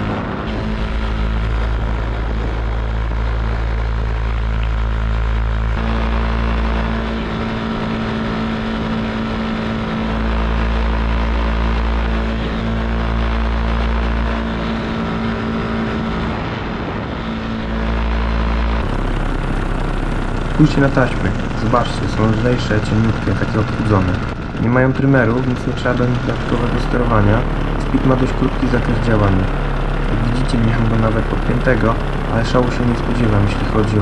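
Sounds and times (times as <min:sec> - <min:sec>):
paramotor engine droning: 0:00.0 - 0:34.0.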